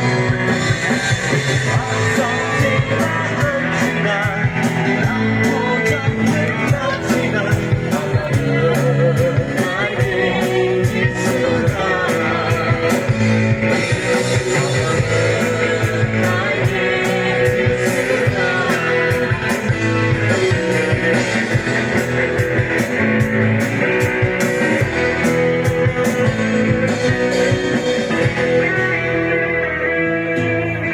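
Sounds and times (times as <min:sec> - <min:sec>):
drums and cymbals: 0:00.0 - 0:30.8
guitar: 0:00.0 - 0:30.9
live band playing: 0:00.0 - 0:30.9.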